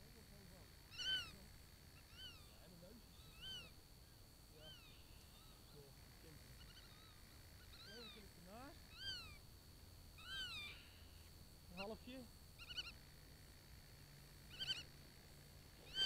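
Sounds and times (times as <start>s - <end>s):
faint animal cries: 0.9s - 3.8s, 4.6s - 13.1s, 14.4s - 16.0s.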